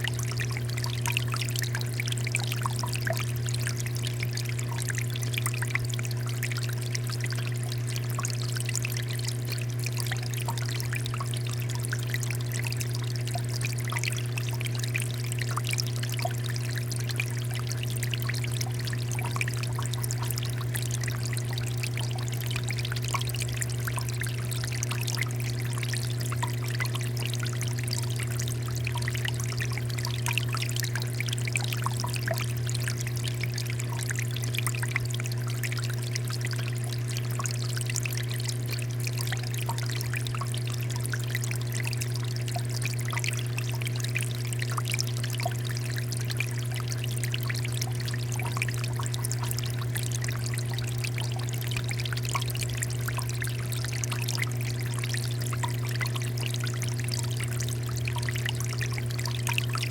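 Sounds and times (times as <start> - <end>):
constant low hum: 0.0 - 59.9
water fountain flowing: 0.0 - 59.9.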